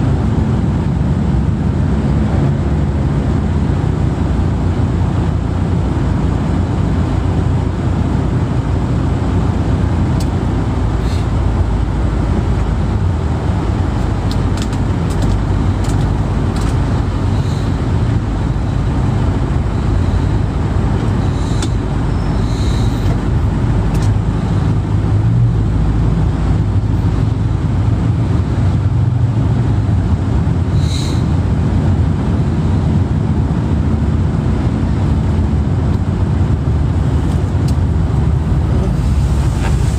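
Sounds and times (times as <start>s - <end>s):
vehicle road noise rumble: 0.0s - 39.9s.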